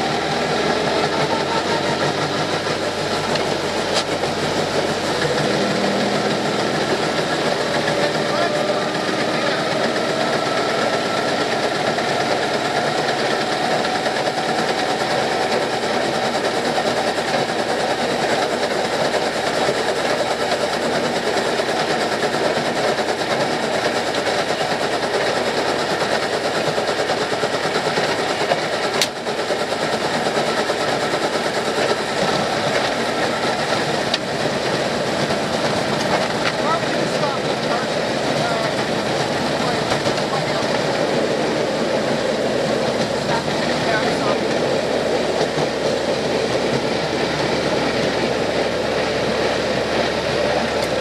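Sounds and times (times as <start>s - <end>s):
rail speeder clattering: 0.0s - 51.0s.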